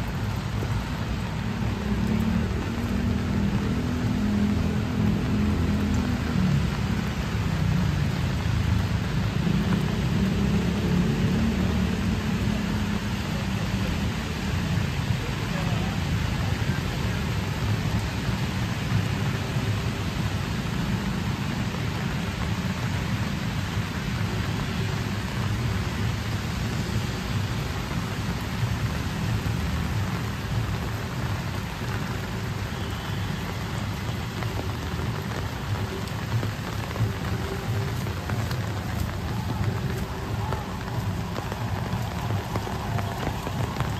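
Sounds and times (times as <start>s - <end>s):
rain on wet pavement: 0.0s - 43.9s.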